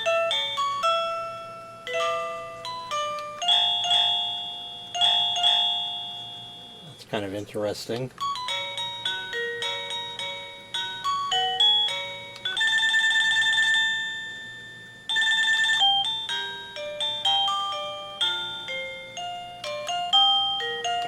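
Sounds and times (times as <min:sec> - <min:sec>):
electronic doorbell chime tune: 0:00.0 - 0:07.0, 0:08.2 - 0:21.0.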